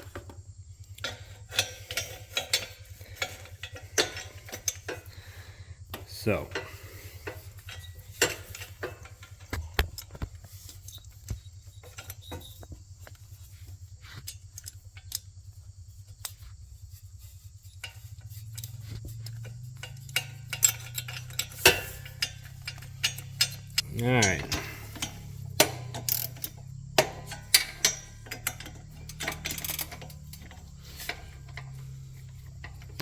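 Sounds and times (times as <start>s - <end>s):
metallic clicks of hand tools: 0.9s - 5.2s, 5.9s - 13.2s, 17.9s - 33.0s.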